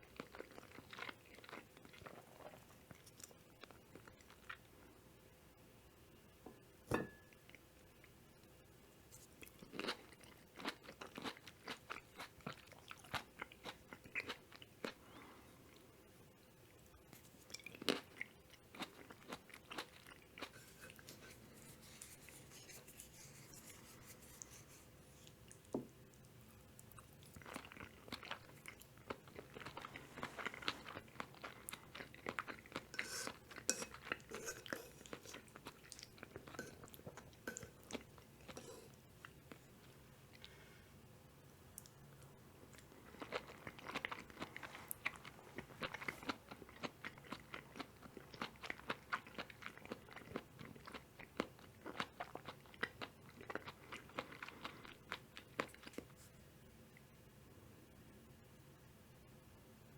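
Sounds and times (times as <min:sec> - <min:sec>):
person chewing wetly: 0:00.0 - 0:04.7, 0:09.4 - 0:15.8, 0:17.4 - 0:24.5, 0:25.2 - 0:40.6, 0:41.8 - 0:56.2.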